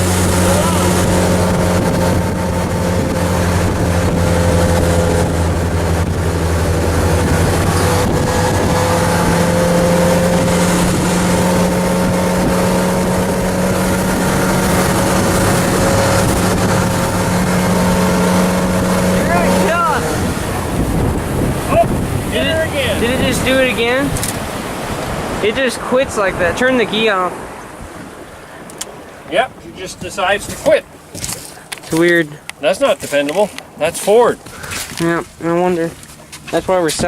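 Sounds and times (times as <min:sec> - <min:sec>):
boat engine running: 0:00.0 - 0:37.0
rush of wind and water: 0:00.0 - 0:37.0.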